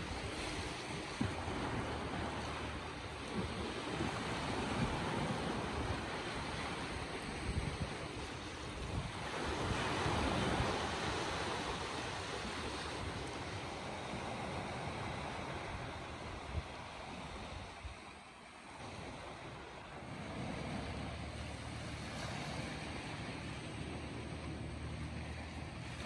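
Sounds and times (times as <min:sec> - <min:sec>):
waves breaking over rocks: 0:00.0 - 0:26.0
wind buffeting microphone: 0:00.0 - 0:26.0.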